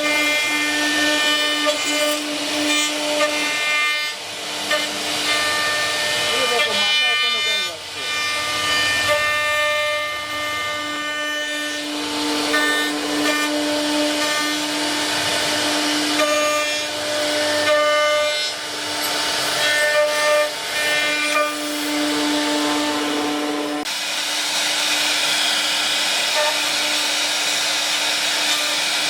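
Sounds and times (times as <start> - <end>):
rasping cutting noise: 0.0 - 29.0.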